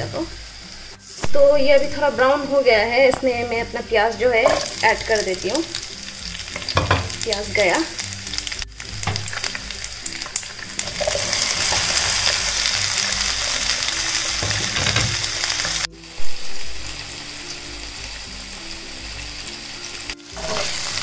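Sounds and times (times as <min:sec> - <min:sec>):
deep-frying bubbling: 0:00.0 - 0:21.0
soft background music: 0:00.0 - 0:21.0
vegetables sizzling in hot oil: 0:00.0 - 0:21.0.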